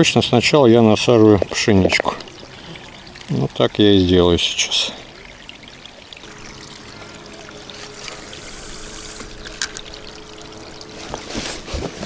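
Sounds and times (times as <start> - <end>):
river water trickling: 0.0 - 12.0.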